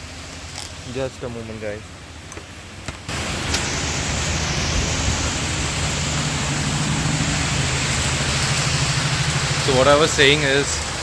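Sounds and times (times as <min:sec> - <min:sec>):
heavy pouring rain: 0:00.0 - 0:11.0
low engine hum: 0:00.0 - 0:11.0.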